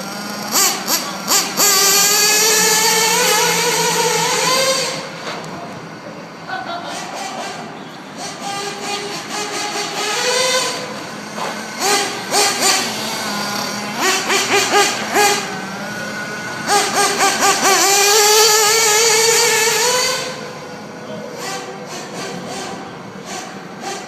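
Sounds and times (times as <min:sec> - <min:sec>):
radio-controlled car motors revving: 0:00.0 - 0:05.9, 0:07.0 - 0:24.0.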